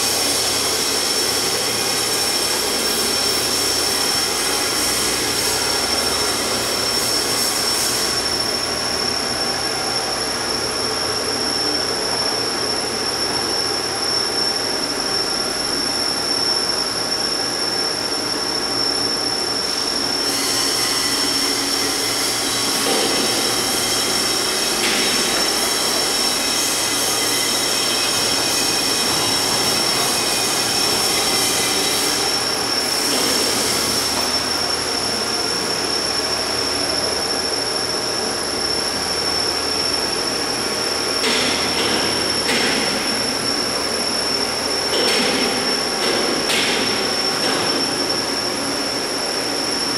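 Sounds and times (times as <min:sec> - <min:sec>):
high-pitched whine: 0:00.0 - 0:49.9.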